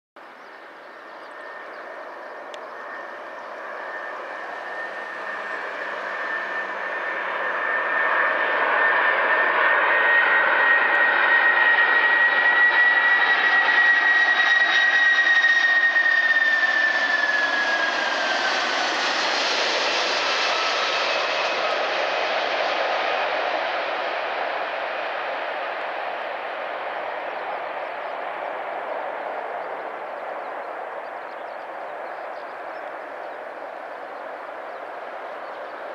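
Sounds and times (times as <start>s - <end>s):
jet engines roaring with whine: 0.2s - 35.9s.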